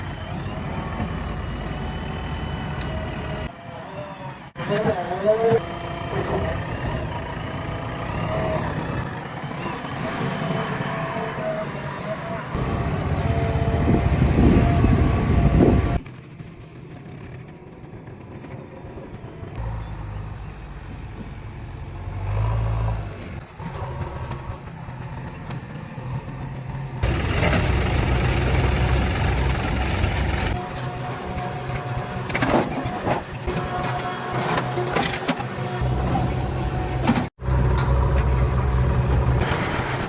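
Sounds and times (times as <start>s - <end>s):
heavy diesel engines running: 0.0s - 40.0s.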